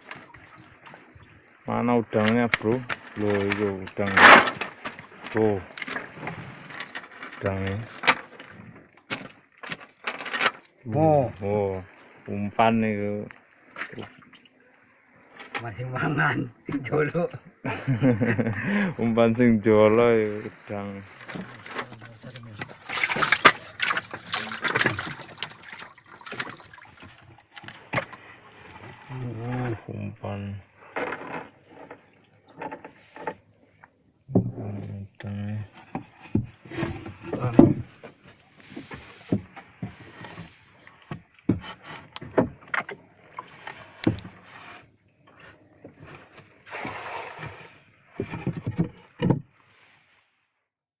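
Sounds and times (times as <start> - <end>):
water splashing and sloshing: 0.0 - 17.1, 18.0 - 34.0, 35.7 - 50.3.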